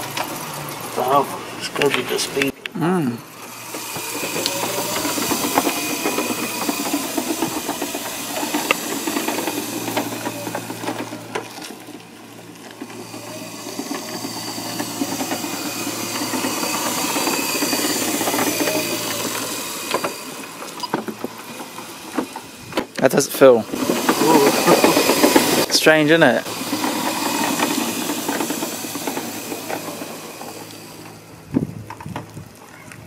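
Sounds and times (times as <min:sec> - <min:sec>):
wheelchair motors humming: 0:00.0 - 0:33.0
wheels rolling over paving: 0:00.0 - 0:33.0.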